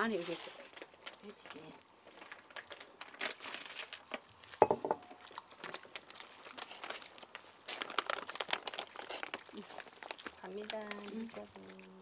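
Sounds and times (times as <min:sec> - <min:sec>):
wet squishing of batter: 0:00.0 - 0:12.0.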